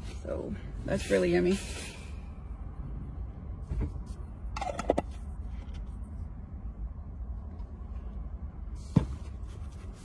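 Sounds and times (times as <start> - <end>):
low hum inside car cabin: 0.0 - 10.0.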